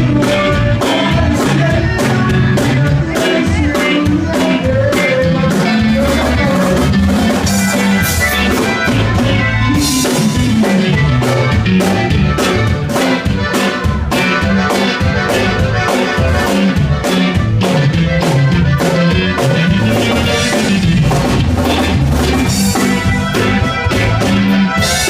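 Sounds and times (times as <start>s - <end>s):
band music: 0.0s - 25.0s
bass line: 0.0s - 25.0s
drum kit steady beat: 0.0s - 25.0s.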